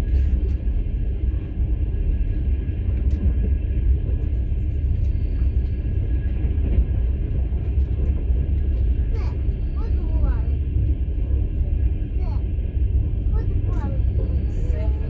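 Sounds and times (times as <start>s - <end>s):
moving train rumble from inside: 0.0s - 15.0s.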